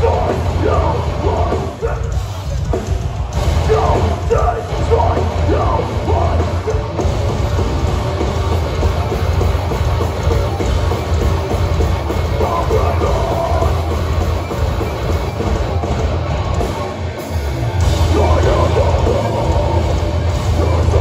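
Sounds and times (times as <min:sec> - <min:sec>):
heavy hardcore band playing: 0:00.0 - 0:21.0.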